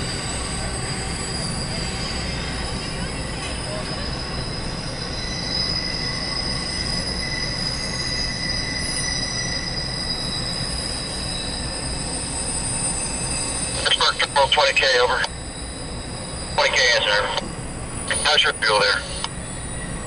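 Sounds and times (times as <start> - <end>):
high-pitched wheel squealing: 0.0 - 20.0
train rumbling past: 0.0 - 20.0.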